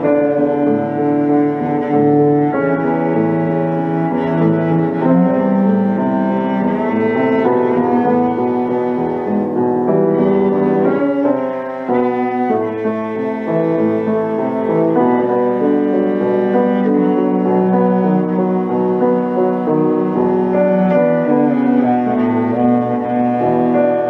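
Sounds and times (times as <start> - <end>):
cello bowed notes: 0.0 - 24.0
piano playing: 0.0 - 24.0.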